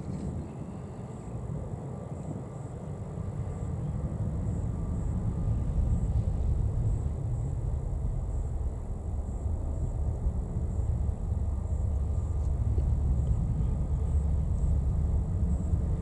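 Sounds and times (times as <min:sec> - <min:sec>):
jet engines rumbling: 0:02.7 - 0:16.0.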